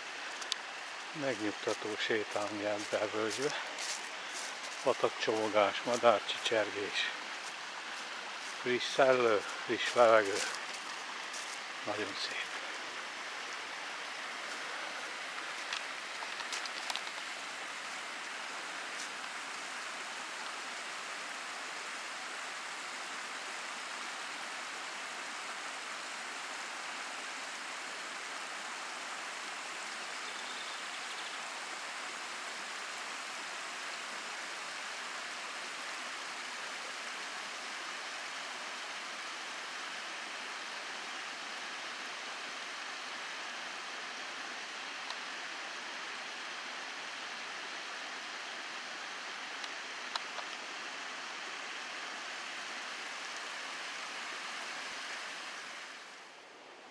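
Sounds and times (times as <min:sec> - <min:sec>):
stream babbling: 0:00.0 - 0:56.9.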